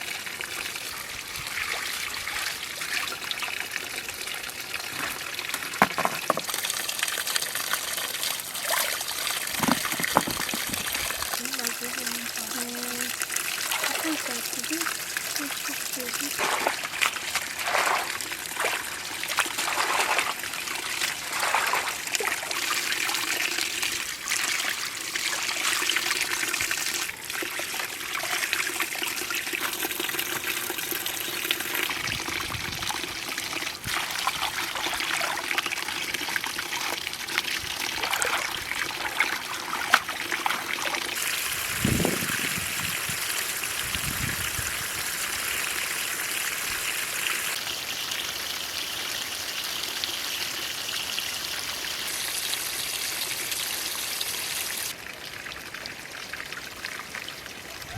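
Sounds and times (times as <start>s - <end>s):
water trickling and splashing: 0.0s - 57.9s.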